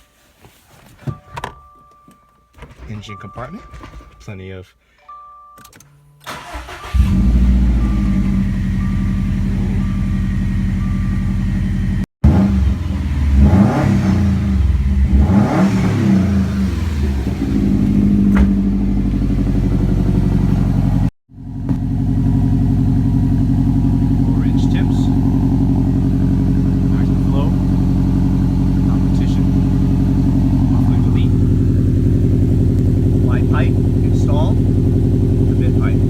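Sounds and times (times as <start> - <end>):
car engine starting and revving: 6.2 - 36.0.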